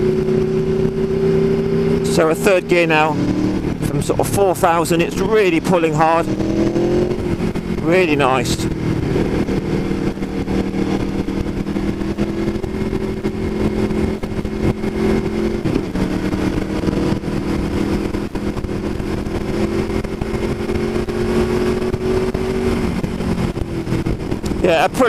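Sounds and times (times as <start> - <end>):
motorcycle engine at speed: 0.0 - 25.0
wind rush: 0.0 - 25.0.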